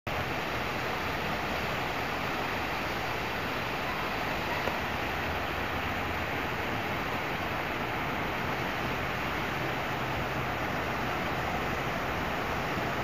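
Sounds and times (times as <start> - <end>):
low rumble of traffic: 0.1 - 13.0
rain falling: 0.1 - 13.0.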